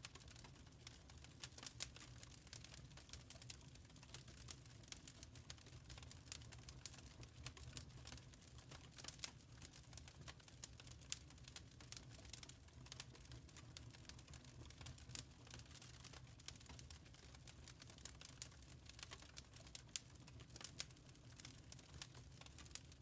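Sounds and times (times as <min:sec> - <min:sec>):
faint wood fire crackling: 0:00.0 - 0:23.0
low steady fire rumble: 0:00.0 - 0:23.0.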